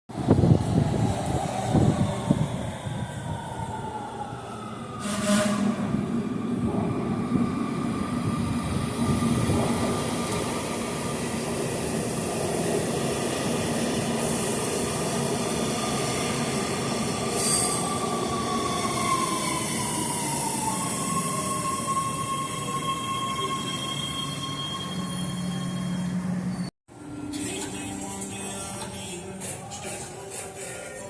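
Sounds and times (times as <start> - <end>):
subway train rumbling in tunnel: 0.1 - 31.0.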